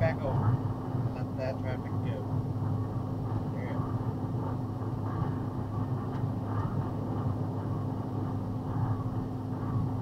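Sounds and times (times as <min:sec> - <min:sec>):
constant low hum: 0:00.0 - 0:10.0
truck engine and road noise: 0:00.0 - 0:10.0.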